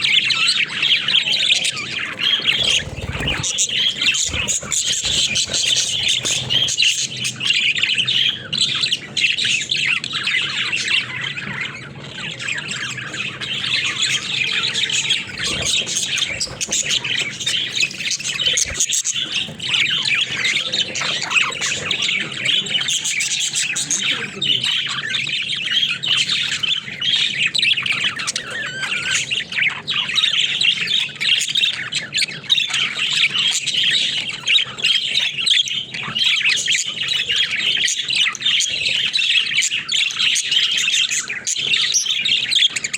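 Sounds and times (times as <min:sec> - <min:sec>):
budgerigars chattering and chirping: 0:00.0 - 0:42.9.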